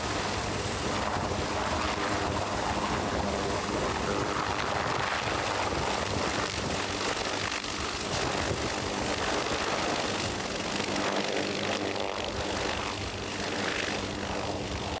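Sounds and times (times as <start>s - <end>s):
helicopter rotor drone: 0.0s - 15.0s
high turbine whine: 0.0s - 15.0s.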